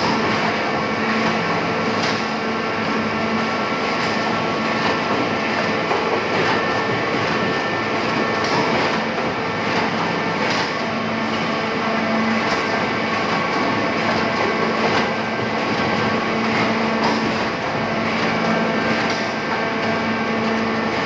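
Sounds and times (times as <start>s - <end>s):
constant machine tones: 0.0s - 21.0s
machine humming and hissing: 0.0s - 21.0s.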